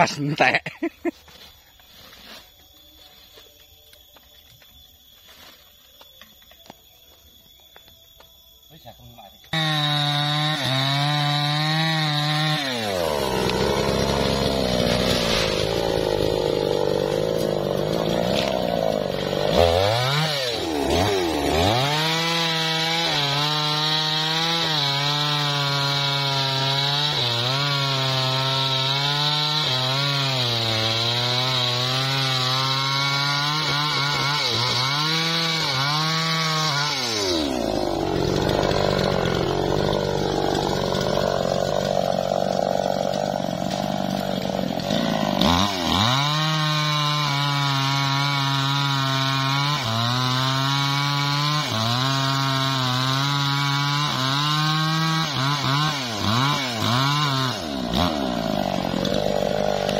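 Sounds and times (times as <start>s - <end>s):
chainsaw cutting wood: 9.4s - 59.9s.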